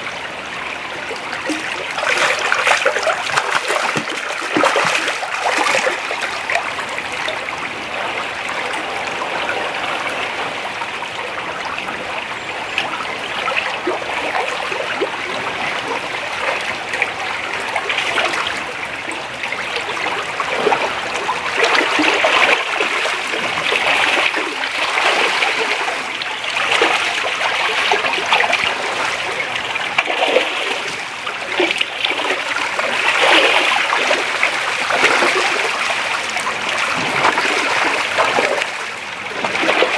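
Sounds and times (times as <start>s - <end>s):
creek water splashing over shallows: 0.0s - 39.9s.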